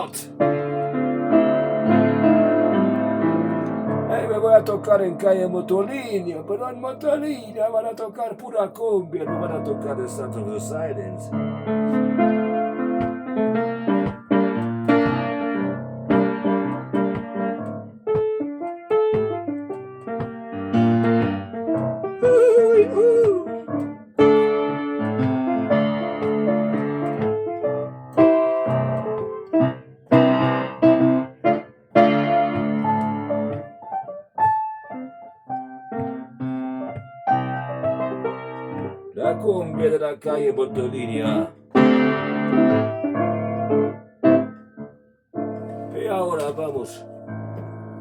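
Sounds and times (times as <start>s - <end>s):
solo piano: 0.0s - 48.0s.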